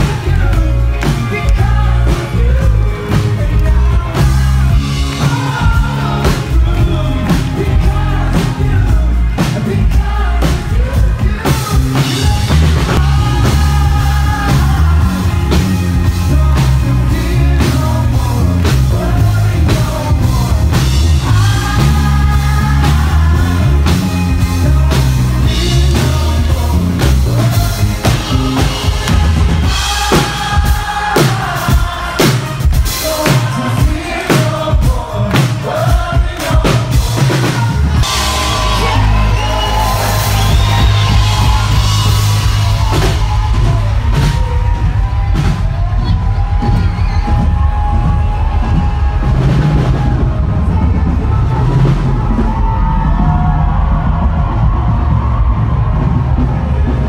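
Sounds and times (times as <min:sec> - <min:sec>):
drum kit: 0:00.0 - 0:57.0
heavy bass: 0:00.0 - 0:57.0
lead singer: 0:00.0 - 0:57.0.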